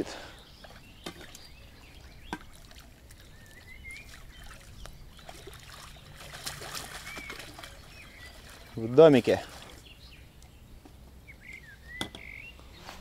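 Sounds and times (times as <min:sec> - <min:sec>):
lake water lapping: 0:00.0 - 0:10.8.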